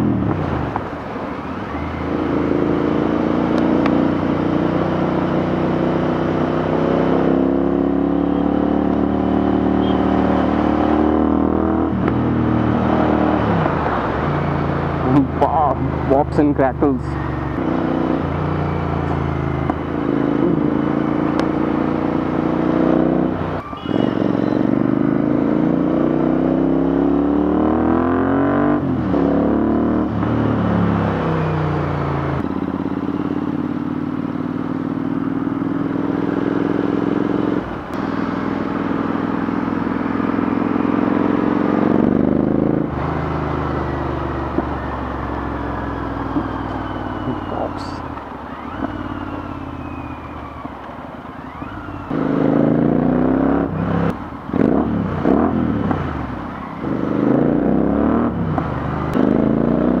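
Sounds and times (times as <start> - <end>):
motorcycle engine accelerating: 1.8 - 50.7, 51.4 - 60.0.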